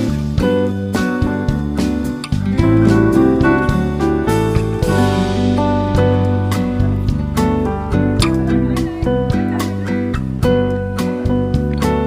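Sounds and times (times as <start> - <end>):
melodic music with steady beat: 0.0 - 12.0.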